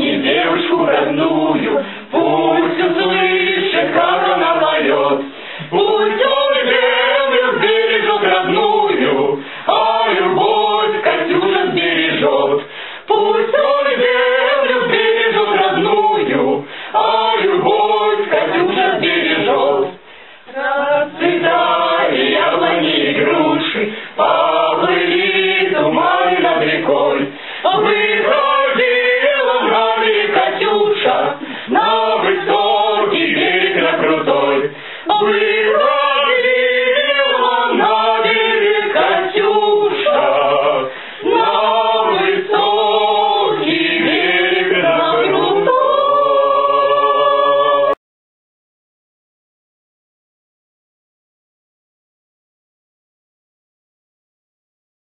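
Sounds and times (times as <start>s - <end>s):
group of people singing: 0.0s - 48.0s.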